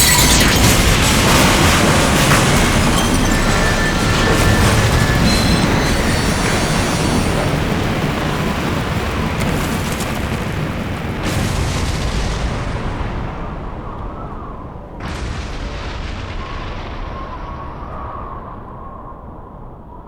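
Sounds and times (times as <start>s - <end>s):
explosion blast: 0.0s - 20.0s
large explosion rumble: 0.0s - 20.0s.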